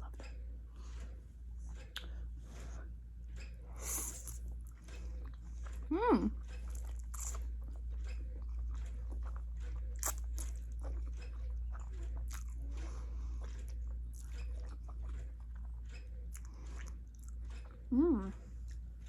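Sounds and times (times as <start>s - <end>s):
chewing noodles: 3.3s - 19.0s.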